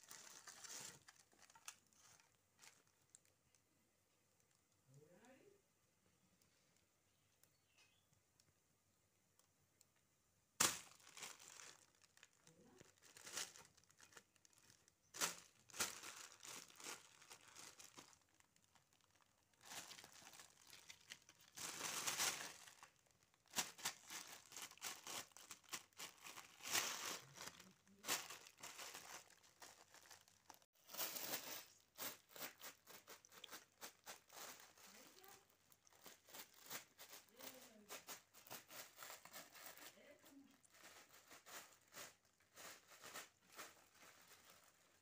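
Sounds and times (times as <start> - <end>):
plastic sheet crinkling: 0.0 - 3.6, 10.6 - 45.0.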